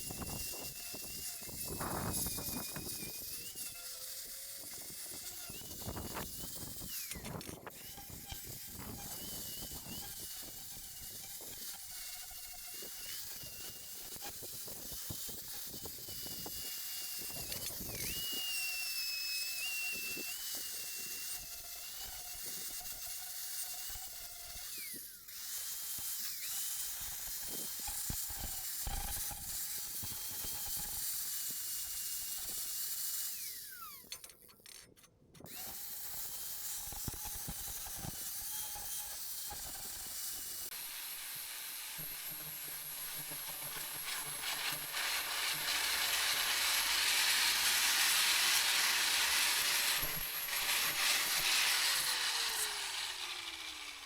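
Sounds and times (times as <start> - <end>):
angle grinder motor whine: 0.0 - 34.3, 35.4 - 54.0.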